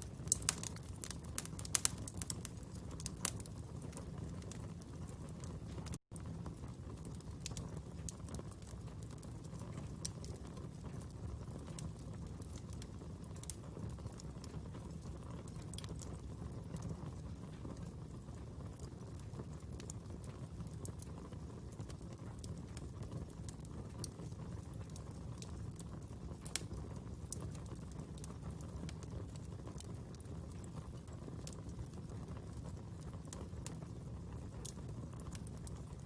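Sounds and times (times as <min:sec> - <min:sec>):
fire crackling: 0:00.0 - 0:36.0.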